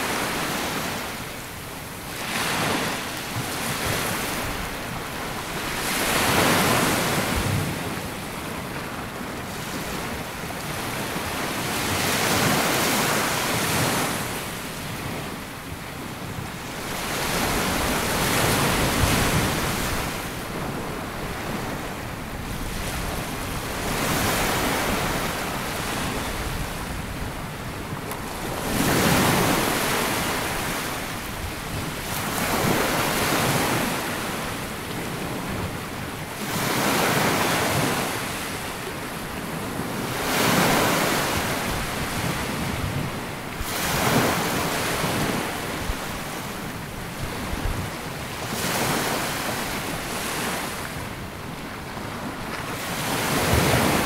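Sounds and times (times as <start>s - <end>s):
waves breaking on sandy beach: 0.0s - 54.0s
wind rumble on microphone: 0.0s - 54.0s.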